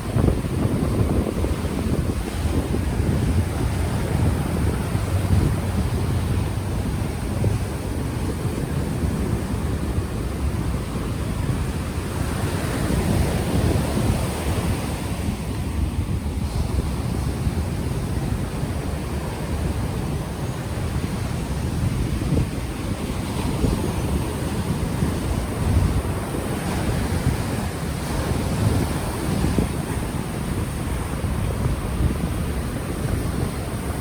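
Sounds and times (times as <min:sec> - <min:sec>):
ocean waves washing ashore: 0:00.0 - 0:34.0
wind buffeting microphone: 0:00.0 - 0:34.0.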